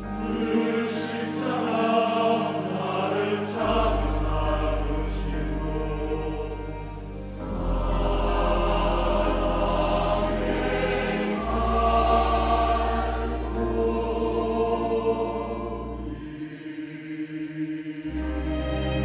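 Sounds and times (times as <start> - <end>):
choir singing a hymn: 0.0 - 19.0
string orchestra chords: 0.0 - 19.0.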